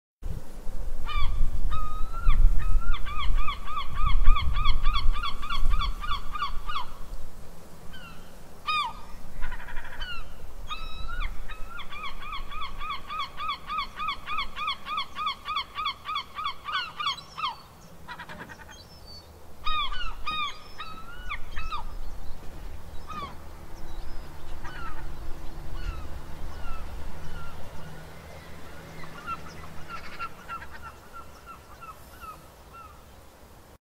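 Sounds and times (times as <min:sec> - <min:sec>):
seagulls calling: 0:01.1 - 0:07.0, 0:07.9 - 0:33.0.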